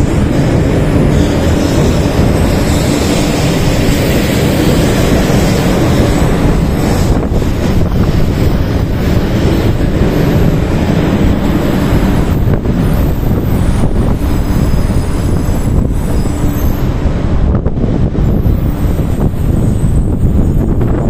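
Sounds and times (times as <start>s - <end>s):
train wheels rumbling: 0.0s - 21.0s
wind buffeting microphone: 0.0s - 21.0s.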